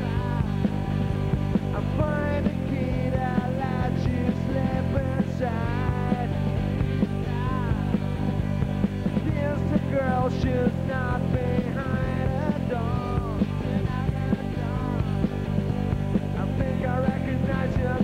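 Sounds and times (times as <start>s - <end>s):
bass: 0.0s - 18.0s
busy drum beat: 0.0s - 18.0s.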